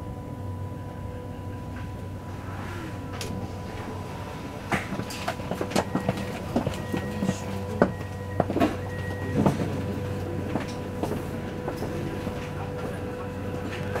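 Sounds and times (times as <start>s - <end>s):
faint steady tones: 0.0s - 14.0s
train interior hum: 0.0s - 14.0s.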